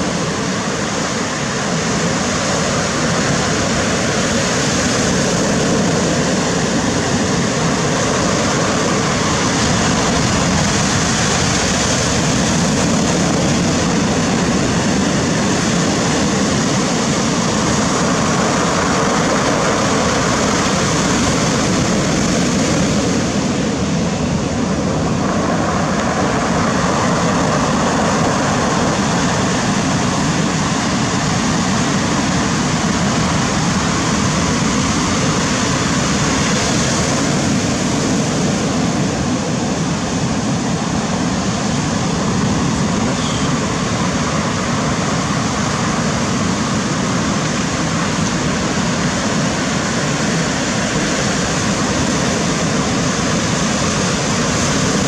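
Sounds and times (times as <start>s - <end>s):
surf washing over pebbles: 0.0s - 55.0s.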